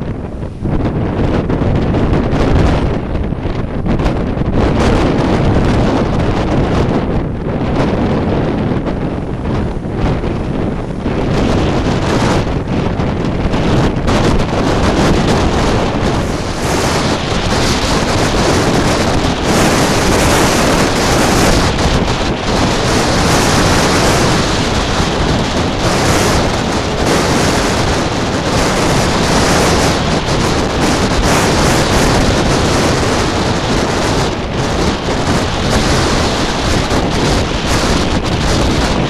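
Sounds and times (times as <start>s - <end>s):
surf breaking on rocks: 0.0s - 39.0s
wind buffeting microphone: 0.0s - 39.0s.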